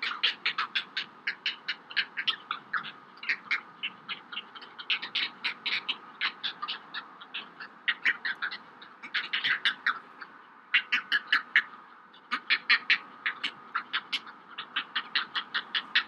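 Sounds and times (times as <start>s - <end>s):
heron chicks begging calls: 0.0s - 16.0s.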